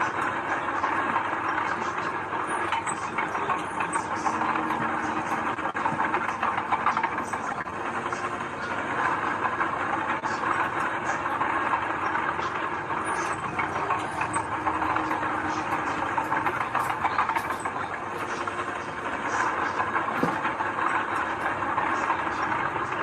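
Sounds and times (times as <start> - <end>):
faint clanking: 0.0 - 23.0
heavy machinery running: 0.0 - 23.0.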